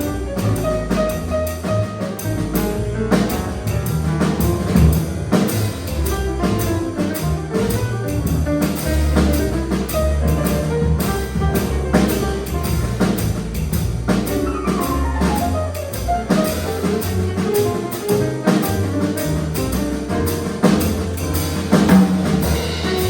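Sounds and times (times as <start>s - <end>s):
drums keeping steady beat: 0.0s - 23.0s
jazz band playing: 0.0s - 23.0s.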